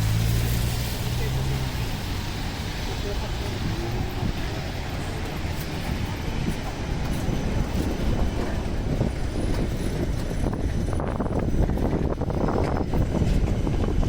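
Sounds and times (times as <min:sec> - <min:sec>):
heavy vehicle rumbling past: 0:00.0 - 0:14.0.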